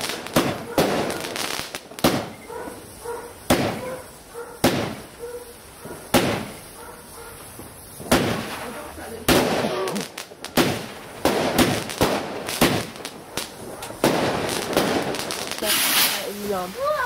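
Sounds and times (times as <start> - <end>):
fireworks bangs with echo: 0.0 - 17.0.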